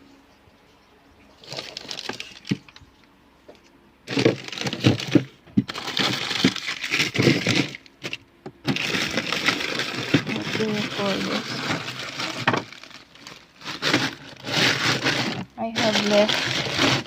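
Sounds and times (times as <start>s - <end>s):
crackling crinkling noise: 1.4s - 3.1s, 4.1s - 17.0s.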